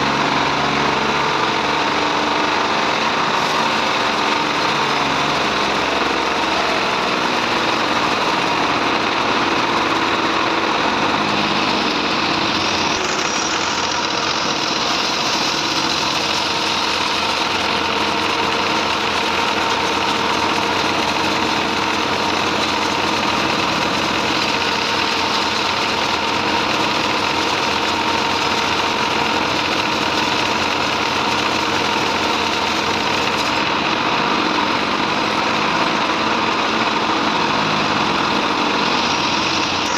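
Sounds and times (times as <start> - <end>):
bandsaw mill drone: 0.0 - 39.9
high machine hum: 0.0 - 39.9.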